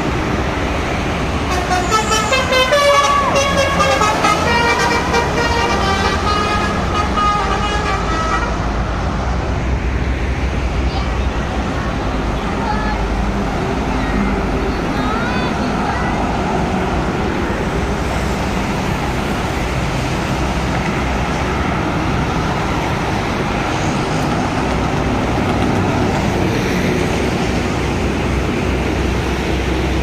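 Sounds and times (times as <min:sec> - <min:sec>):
road traffic engine rumble: 0:00.0 - 0:30.0.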